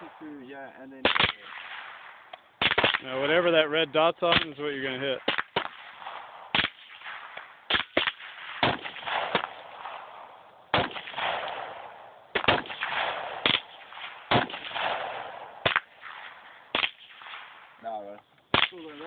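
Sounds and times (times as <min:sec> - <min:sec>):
rifle shots echoing: 0:00.0 - 0:19.0.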